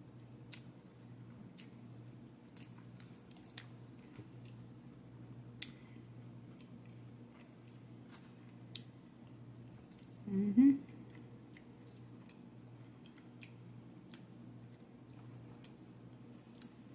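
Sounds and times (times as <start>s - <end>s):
steady low hum: 0.0s - 16.9s
chewing salad: 0.2s - 10.2s, 10.8s - 16.8s.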